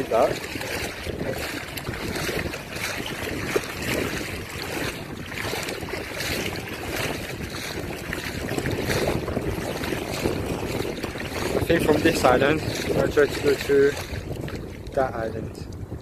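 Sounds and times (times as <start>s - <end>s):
water splashing around wading legs: 0.0s - 15.3s
wind buffeting microphone: 0.0s - 16.0s.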